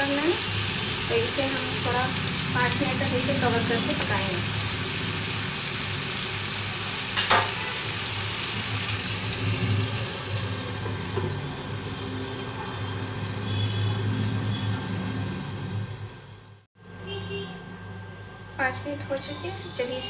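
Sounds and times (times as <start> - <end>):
chicken sizzling in pan: 0.0 - 16.6.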